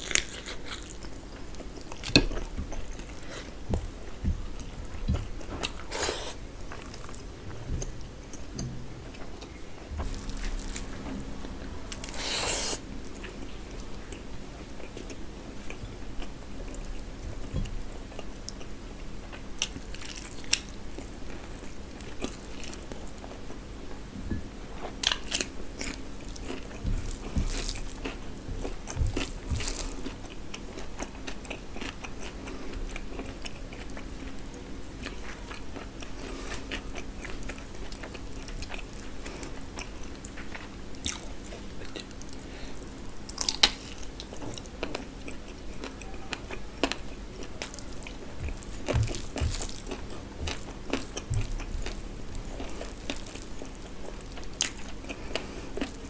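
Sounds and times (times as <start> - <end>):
wet chewing and crunching: 0.0 - 23.6, 24.7 - 56.0.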